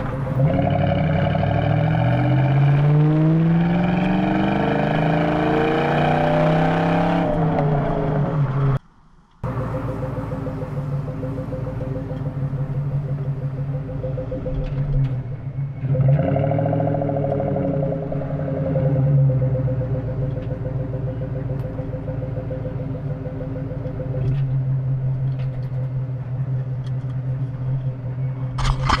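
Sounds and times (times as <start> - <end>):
car engine revving then idling: 0.0 - 8.8, 9.4 - 29.0.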